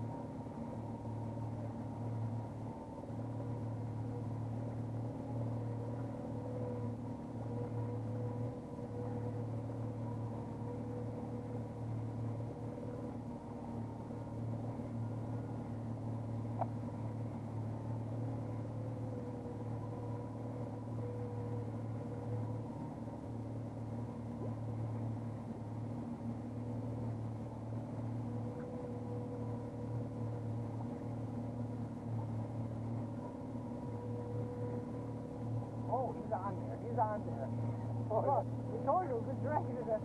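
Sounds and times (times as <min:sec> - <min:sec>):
boat motor droning: 0:00.0 - 0:40.0.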